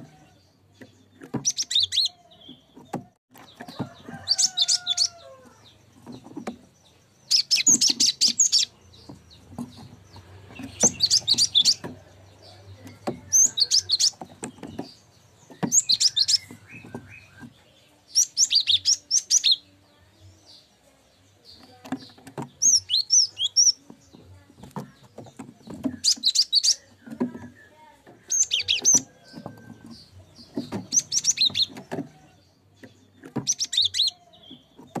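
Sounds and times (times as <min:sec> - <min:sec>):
bird chattering song: 0:00.0 - 0:35.0.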